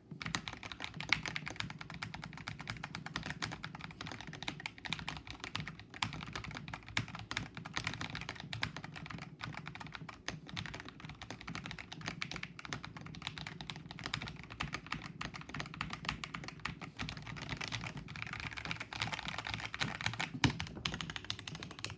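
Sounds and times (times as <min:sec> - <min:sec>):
mechanical keyboard typing: 0:00.0 - 0:21.9.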